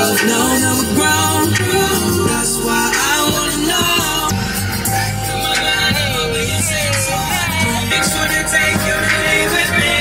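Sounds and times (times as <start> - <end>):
person singing: 0.0 - 10.0
steady bass line: 0.0 - 10.0.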